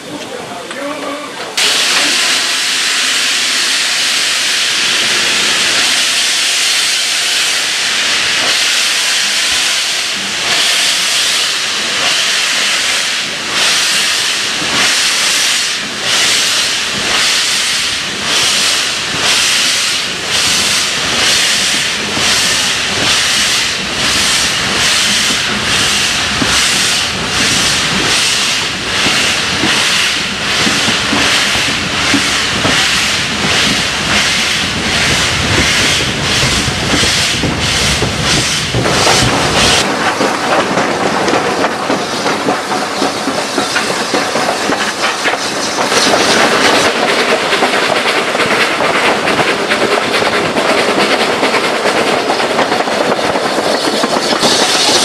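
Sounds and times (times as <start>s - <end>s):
steam hissing loudly: 1.6s - 55.0s
steam locomotive exhaust beats: 1.6s - 55.0s.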